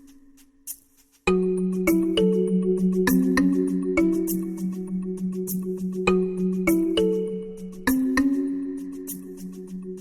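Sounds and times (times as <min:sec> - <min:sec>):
background music with struck notes: 0:00.0 - 0:10.0.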